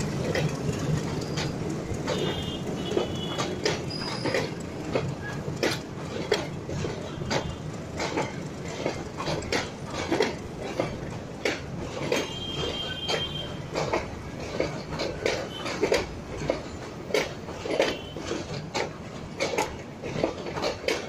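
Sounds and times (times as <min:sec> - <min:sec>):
train low rumble: 0:00.0 - 0:21.0
train wheels clattering over rail joints: 0:00.0 - 0:21.0.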